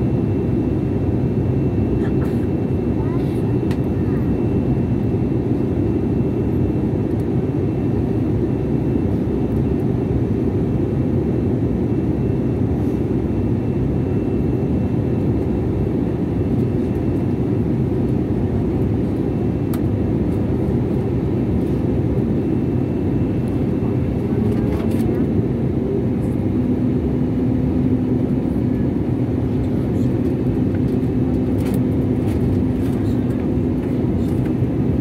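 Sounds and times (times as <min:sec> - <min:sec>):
jet engine and airflow rush: 0:00.0 - 0:35.0.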